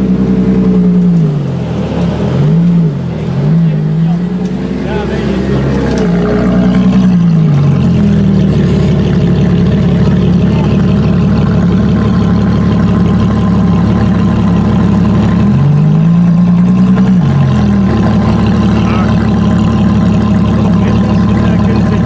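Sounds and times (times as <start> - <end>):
car engine at low revs: 0.0 - 22.0.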